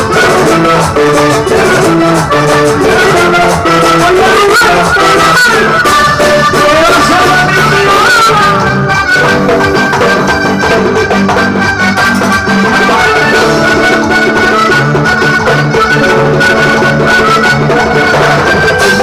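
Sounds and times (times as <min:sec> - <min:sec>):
accordion melody: 0:00.0 - 0:19.0
live latin band music: 0:00.0 - 0:19.0
plucked guitar: 0:00.0 - 0:19.0.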